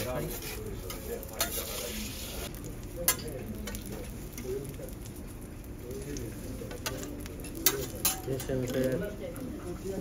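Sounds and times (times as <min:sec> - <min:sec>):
liquid sizzling on griddle: 0:00.0 - 0:10.0.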